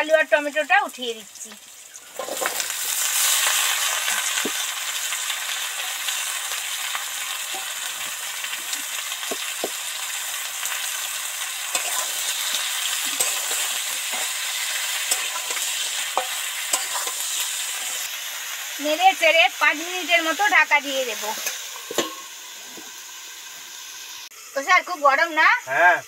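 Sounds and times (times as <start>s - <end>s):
oil sizzling with vegetables: 0.0s - 26.0s.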